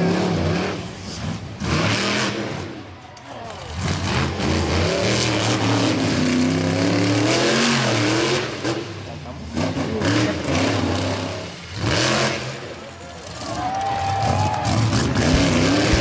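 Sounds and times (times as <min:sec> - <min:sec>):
engine revving: 0:00.0 - 0:02.8, 0:03.6 - 0:16.0.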